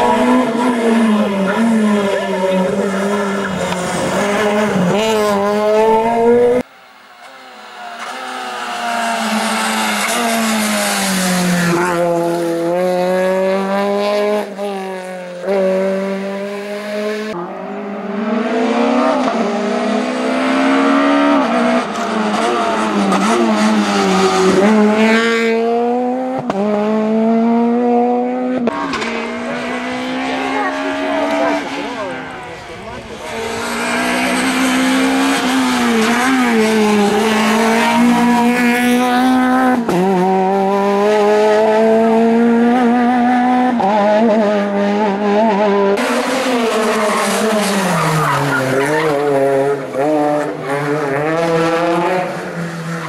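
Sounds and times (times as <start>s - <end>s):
rally car engine revving hard: 0.0s - 6.7s, 8.0s - 53.0s.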